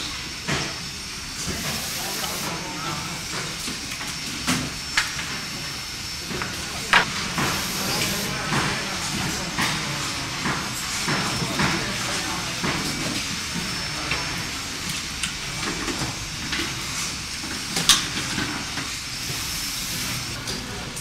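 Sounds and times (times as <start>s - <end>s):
steady factory hiss: 0.0s - 21.0s.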